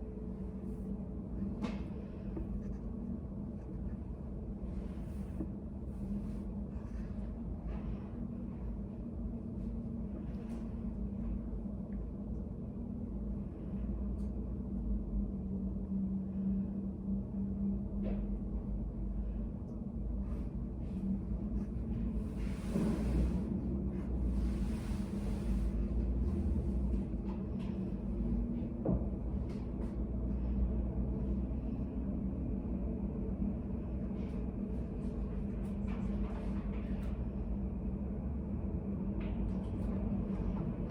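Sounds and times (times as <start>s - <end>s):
room hum and rumble: 0.0s - 40.9s.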